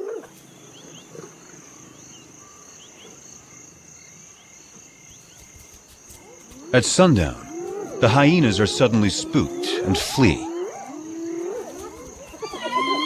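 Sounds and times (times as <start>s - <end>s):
faint insect chirps: 0.0s - 13.0s
high-pitched cricket trill: 0.0s - 13.0s.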